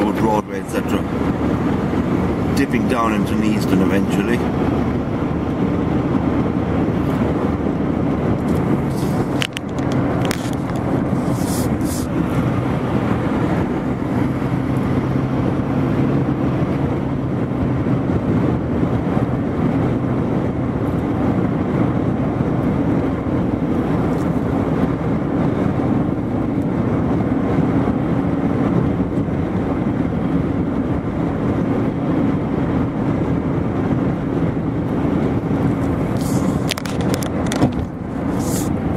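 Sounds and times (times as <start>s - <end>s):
car cabin engine and road drone: 0.0s - 38.9s.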